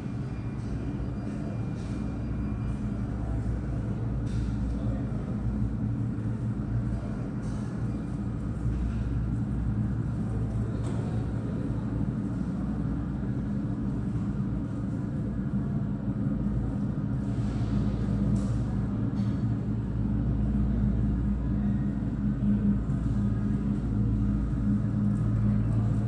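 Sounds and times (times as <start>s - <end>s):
airliner jet engines rumbling: 0.0s - 26.0s.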